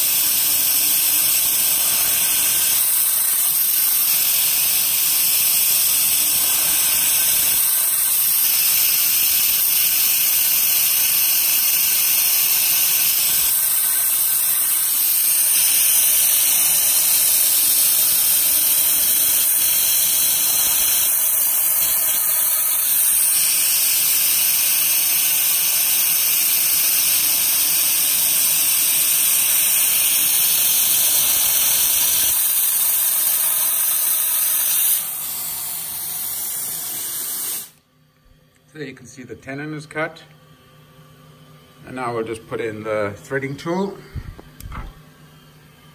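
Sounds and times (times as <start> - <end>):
coolant hissing on lathe work: 0.0 - 37.8.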